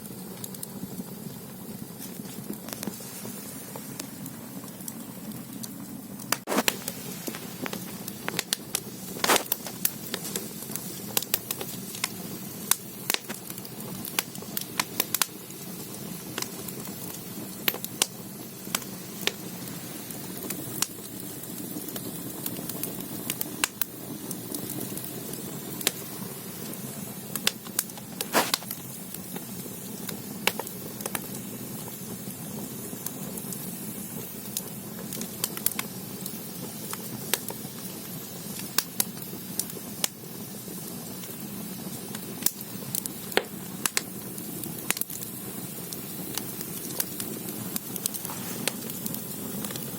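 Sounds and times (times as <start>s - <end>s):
firewood crackling and popping: 0.0s - 49.9s
low rush of flame: 0.0s - 49.9s.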